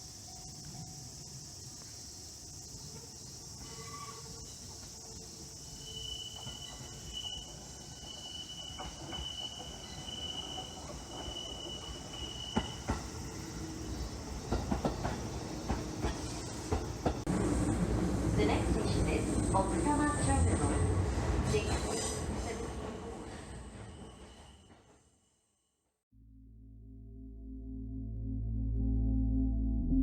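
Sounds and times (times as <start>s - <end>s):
cicadas droning: 0.0s - 24.3s
train rumble with wheel clatter: 0.4s - 25.0s.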